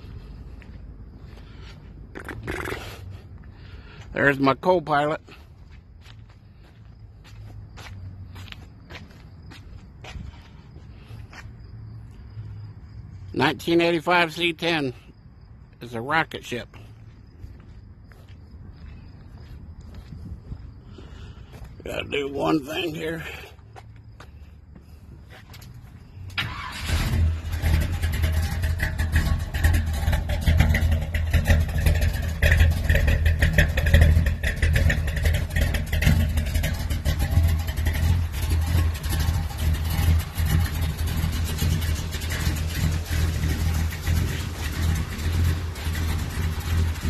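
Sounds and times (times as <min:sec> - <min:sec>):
engine starting and rumbling: 0:00.0 - 0:16.0, 0:20.4 - 0:47.0.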